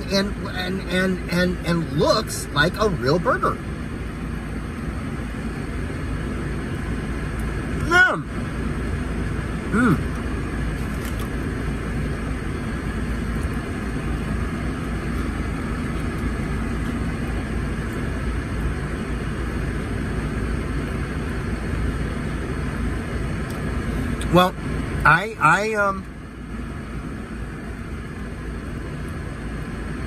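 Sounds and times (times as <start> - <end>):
vehicle rumble inside car: 0.0 - 30.0.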